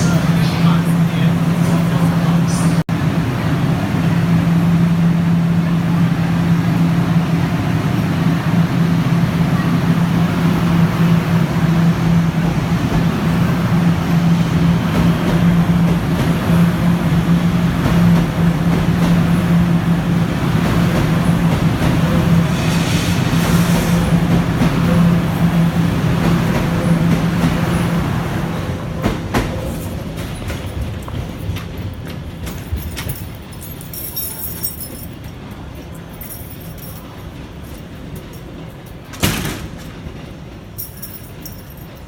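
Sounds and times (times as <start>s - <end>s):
train running: 0.0s - 42.0s.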